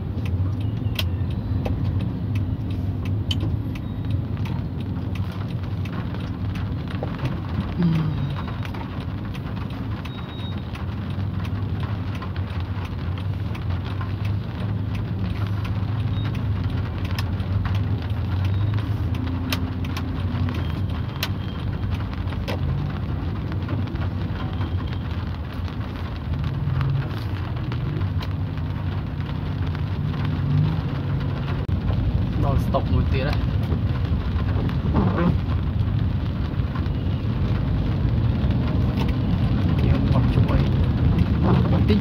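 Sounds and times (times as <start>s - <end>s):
car engine hum: 0.0s - 42.0s
rain pattering on car roof: 0.0s - 42.0s.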